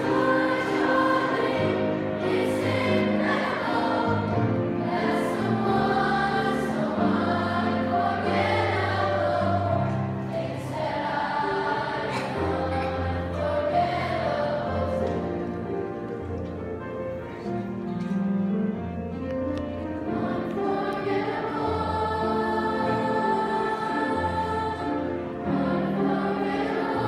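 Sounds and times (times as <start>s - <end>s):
youth choir singing: 0.0s - 16.0s, 20.0s - 27.0s
piano accompaniment: 0.0s - 27.0s.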